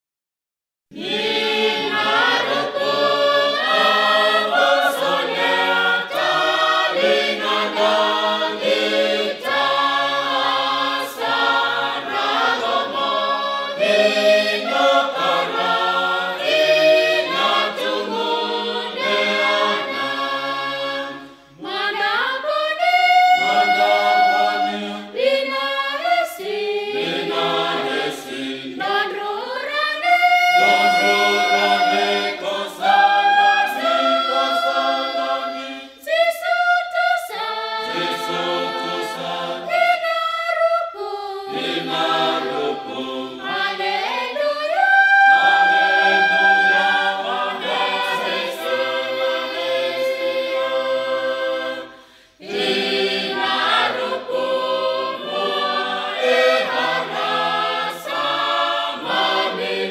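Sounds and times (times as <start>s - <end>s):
choir singing a hymn: 0.9s - 59.9s.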